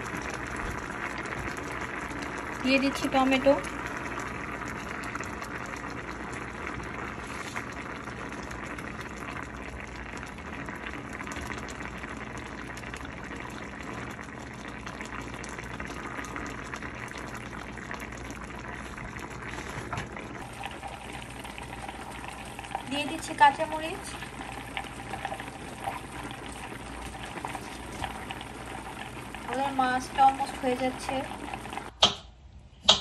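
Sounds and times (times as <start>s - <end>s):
curry bubbling in a pan: 0.0s - 31.9s.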